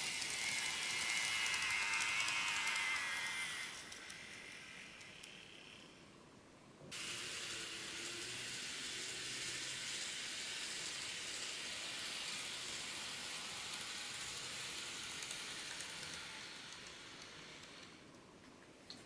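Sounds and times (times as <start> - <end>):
model train wheels on rail: 0.0 - 6.0, 6.9 - 19.0.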